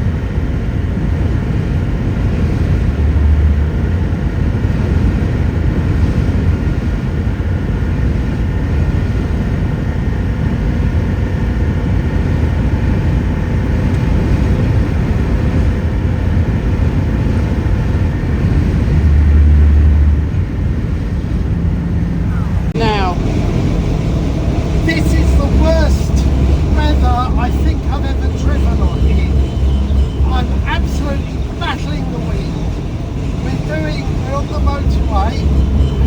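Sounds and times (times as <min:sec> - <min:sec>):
vehicle cab rumble in wind: 0:00.0 - 0:36.0.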